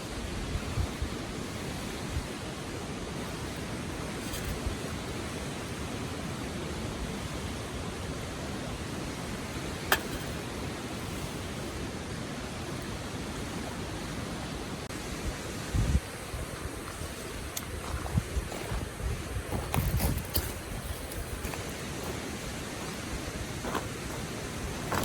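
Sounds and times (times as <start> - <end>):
river flowing over stones: 0.0 - 25.0.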